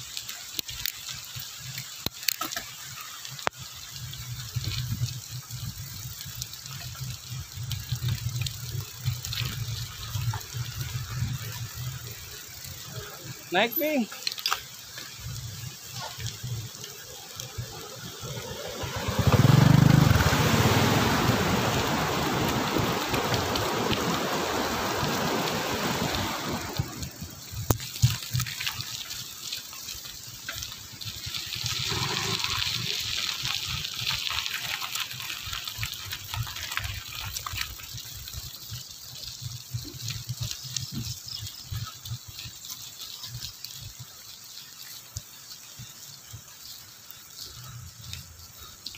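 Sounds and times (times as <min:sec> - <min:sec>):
bicycle riding on wet paths: 0:00.0 - 0:48.9
rain hissing: 0:00.0 - 0:48.9.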